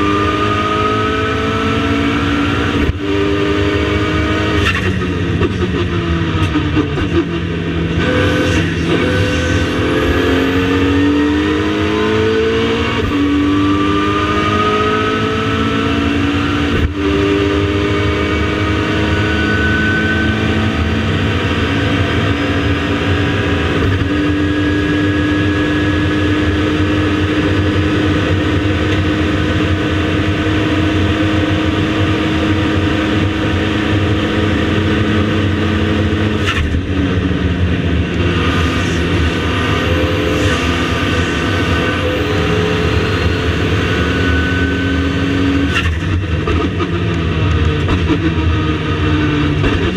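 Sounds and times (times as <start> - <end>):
race car engine accelerating: 0.0 - 49.9.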